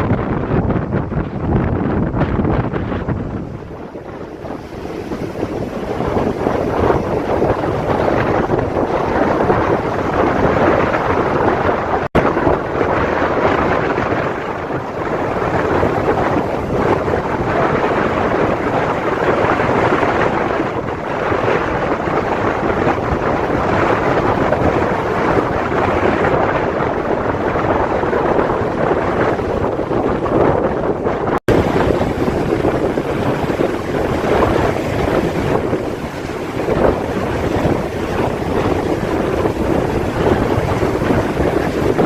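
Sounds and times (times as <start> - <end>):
sea waves washing ashore: 0.0 - 42.0
wind buffeting microphone: 0.0 - 42.0.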